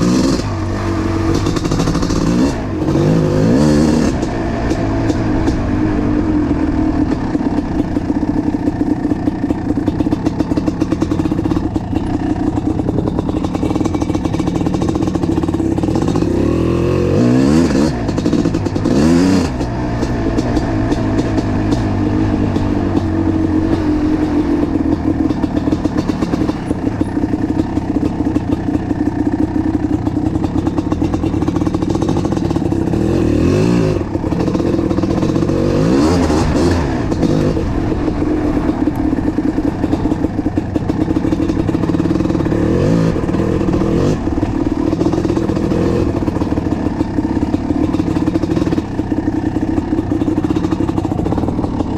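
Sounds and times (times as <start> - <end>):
engine throttle blips: 0.0 - 51.9
two-stroke motorcycle engine idling: 0.0 - 51.9.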